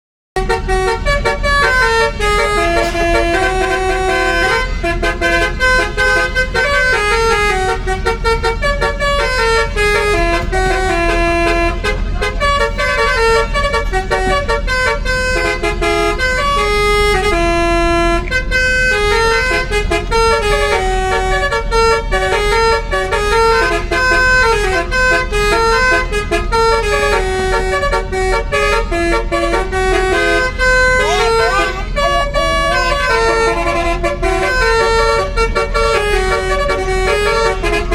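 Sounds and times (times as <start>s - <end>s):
bus horn playing a melody: 0.4s - 37.9s
steady low rumble: 0.4s - 37.9s.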